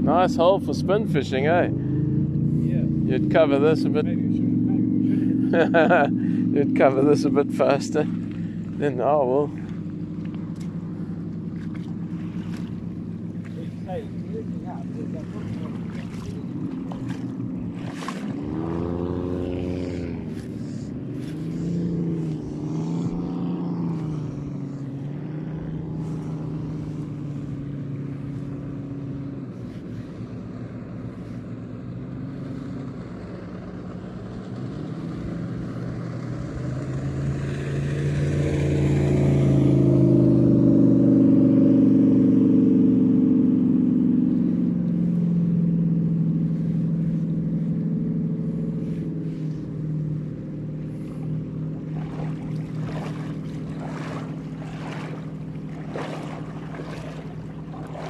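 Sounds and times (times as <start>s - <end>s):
jet boat engines passing: 0.0s - 58.0s.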